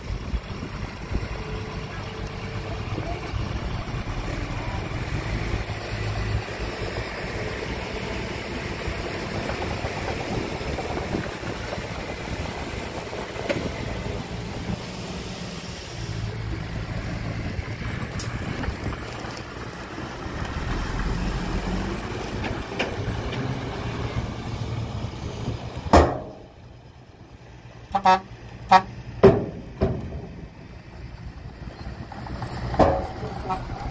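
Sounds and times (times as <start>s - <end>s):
heavy diesel engine rumbling: 0.0s - 33.9s.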